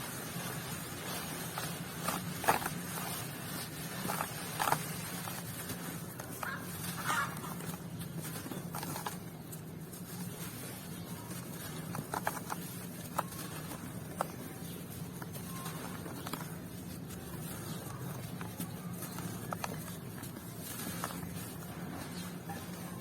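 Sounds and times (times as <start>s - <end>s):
dry material crumbled by hand: 0.0s - 23.0s
sharp crackles: 0.0s - 23.0s
steady low hum: 0.0s - 23.0s.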